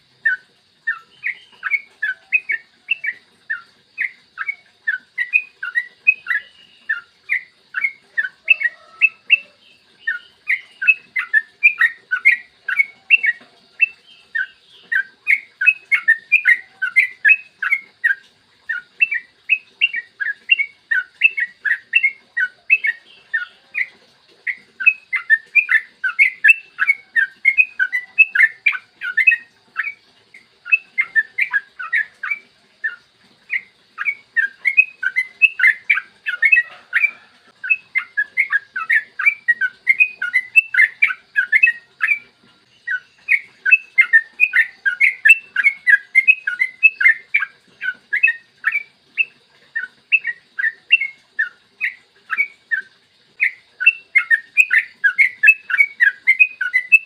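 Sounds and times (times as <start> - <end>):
bird singing bubbling chatter: 0.0 - 57.0.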